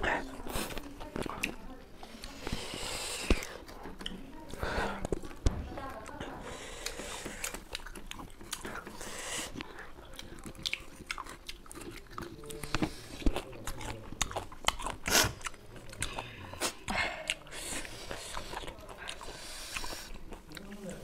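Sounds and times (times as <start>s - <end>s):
people chewing lemon slices: 0.0s - 21.0s.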